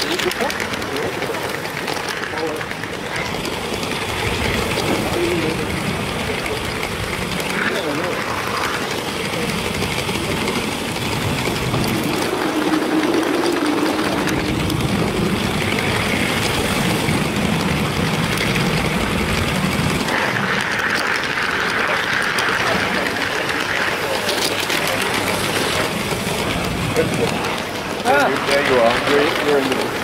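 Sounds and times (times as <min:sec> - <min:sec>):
toy train motor whirring: 0:00.0 - 0:30.0.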